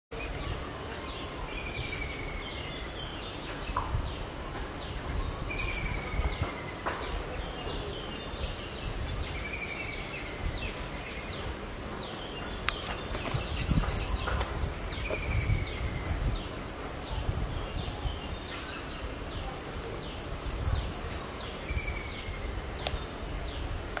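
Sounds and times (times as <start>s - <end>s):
birds chirping: 1.0s - 23.7s.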